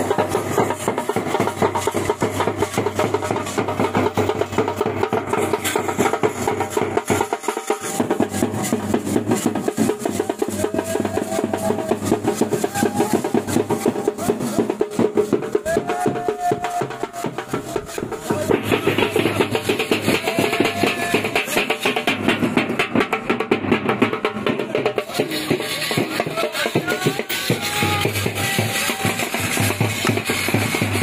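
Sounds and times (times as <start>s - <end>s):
bass drum and snare drumming: 0.0s - 31.0s.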